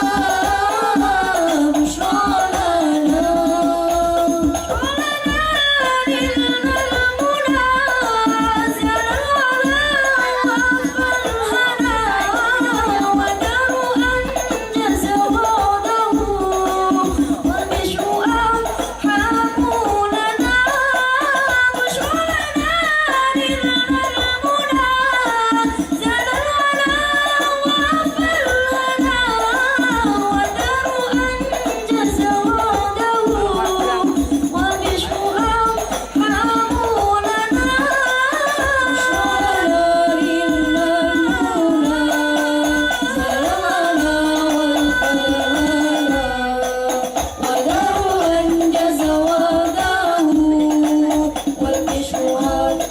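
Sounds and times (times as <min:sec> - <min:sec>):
frame drums rhythm: 0:00.0 - 0:52.9
voices singing a melody: 0:00.0 - 0:52.9.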